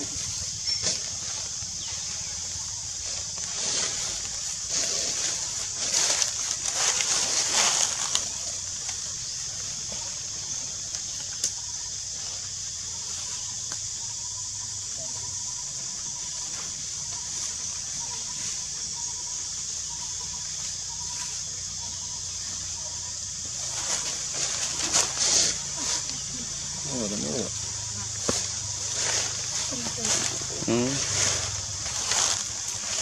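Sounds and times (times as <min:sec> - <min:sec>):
high-pitched forest drone: 0:00.0 - 0:33.0
leaves and branches rustling: 0:00.0 - 0:33.0.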